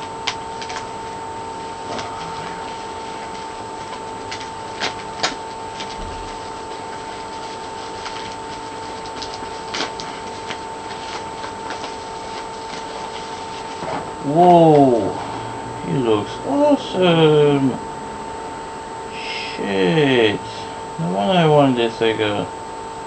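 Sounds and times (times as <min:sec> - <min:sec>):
steady electrical whine: 0:00.0 - 0:23.0.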